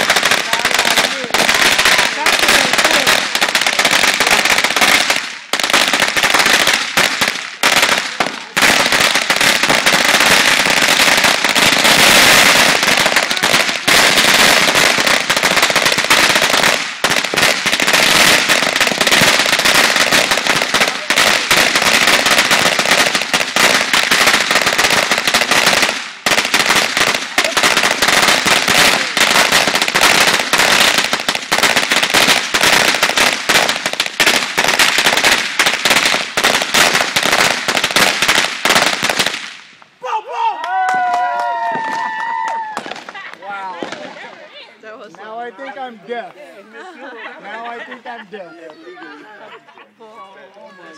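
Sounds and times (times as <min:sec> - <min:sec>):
firecrackers crackling: 0:00.0 - 0:40.0, 0:40.6 - 0:48.3.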